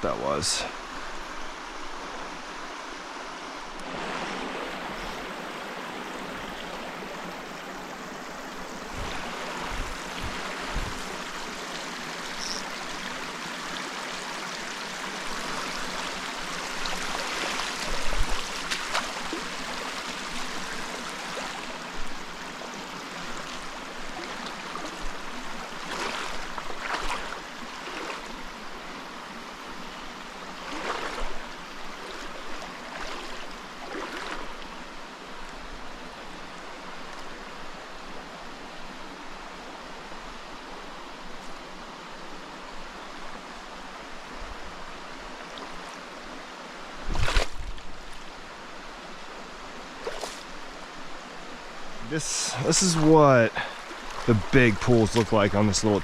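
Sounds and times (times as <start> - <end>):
stream rushing over rock: 0.0 - 56.0.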